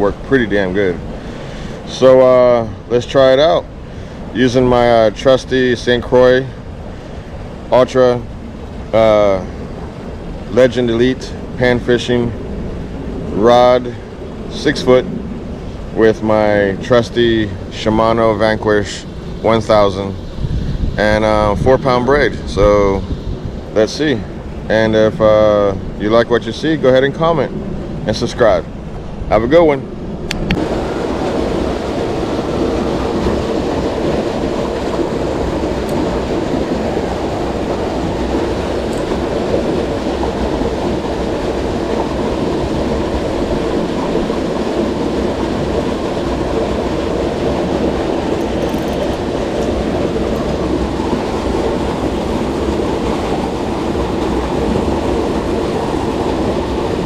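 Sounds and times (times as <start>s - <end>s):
flowing creek water: 0.0s - 57.0s.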